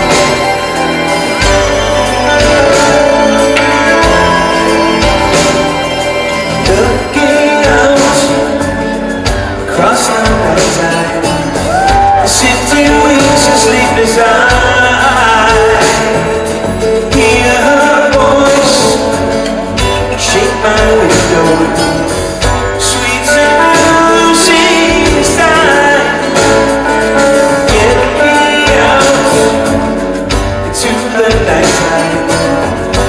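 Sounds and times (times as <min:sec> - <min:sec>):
live rock band playing: 0:00.0 - 0:33.0
man singing: 0:00.0 - 0:33.0.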